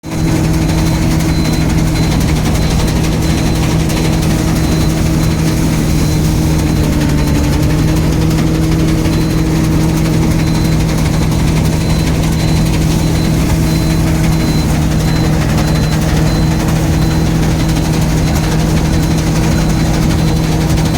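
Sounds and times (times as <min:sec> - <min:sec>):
combine harvester engine drone: 0:00.0 - 0:20.9.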